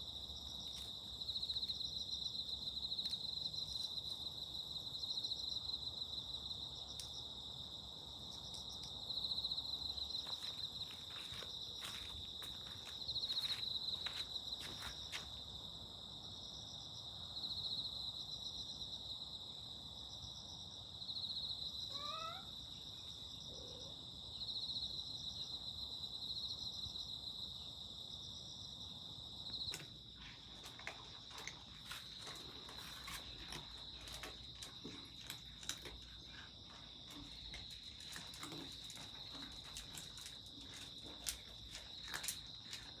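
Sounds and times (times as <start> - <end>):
insects trilling: 0.0 - 15.4, 21.1 - 43.0.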